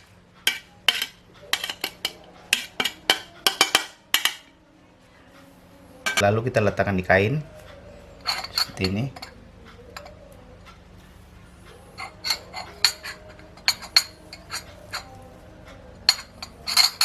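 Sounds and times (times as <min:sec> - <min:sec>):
cutlery clinking against a dish: 0:00.0 - 0:04.6, 0:06.0 - 0:06.4, 0:07.4 - 0:10.8, 0:11.6 - 0:17.0.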